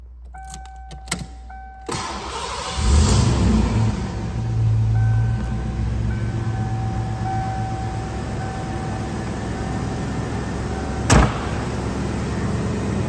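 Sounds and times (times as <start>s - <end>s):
car engine starting and idling: 0.1s - 13.0s.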